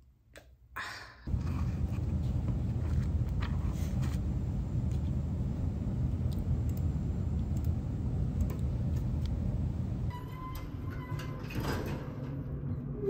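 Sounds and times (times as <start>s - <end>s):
low office room rumble: 1.3s - 13.0s.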